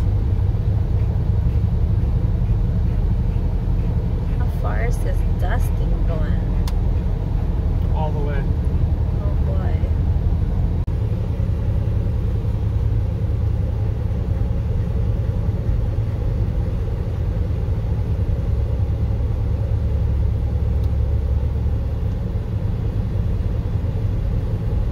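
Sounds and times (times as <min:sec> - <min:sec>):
car cabin road and wind noise: 0:00.0 - 0:24.9.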